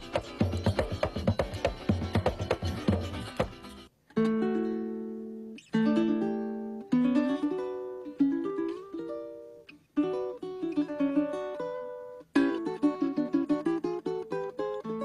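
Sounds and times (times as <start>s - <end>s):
small guitar strummed chords: 0.0s - 15.0s.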